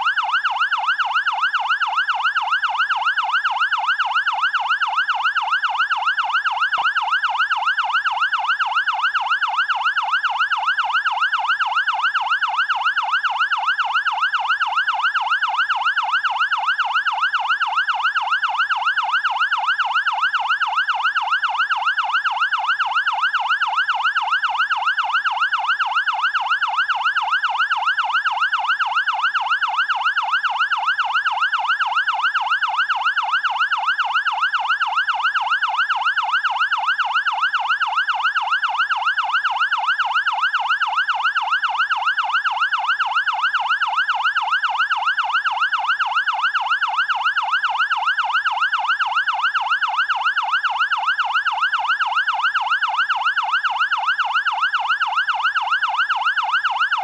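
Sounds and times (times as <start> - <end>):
fire engine siren yelping: 0.0 - 57.0.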